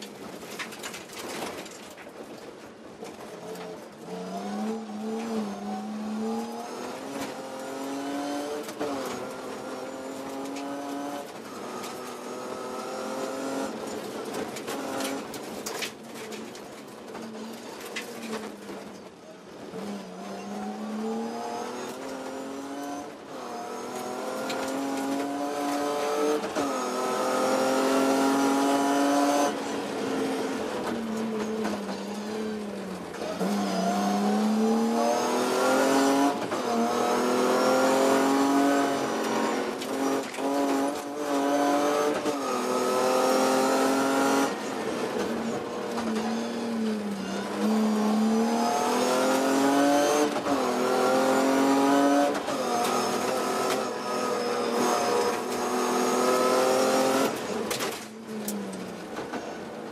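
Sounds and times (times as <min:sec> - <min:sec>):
road and wind noise: 0:00.0 - 0:59.9
car engine revving: 0:03.4 - 0:15.7, 0:19.6 - 0:59.8.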